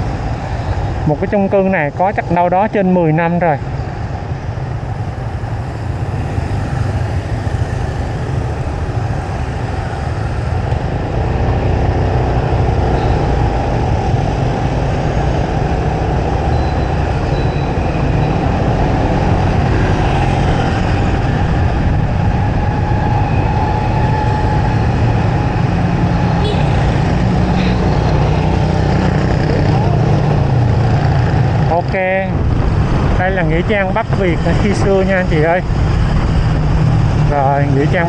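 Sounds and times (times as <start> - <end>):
street traffic low rumble: 0.0 - 38.0.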